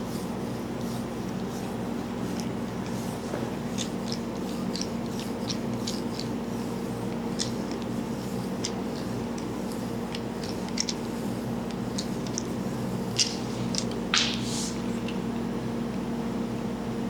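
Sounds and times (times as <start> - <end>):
hands rubbing head: 0.0 - 14.9
steady low hum: 0.0 - 17.0.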